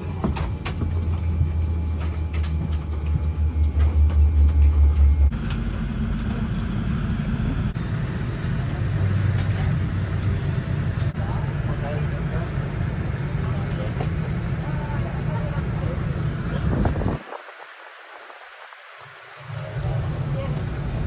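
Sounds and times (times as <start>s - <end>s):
aircraft cabin rumble: 0.0s - 18.6s, 19.3s - 21.0s.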